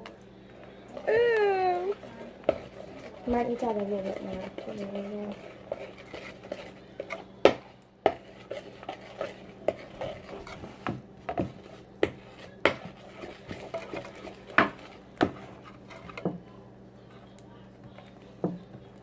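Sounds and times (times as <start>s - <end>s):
utensil scraping against bowl: 1.0s - 16.4s.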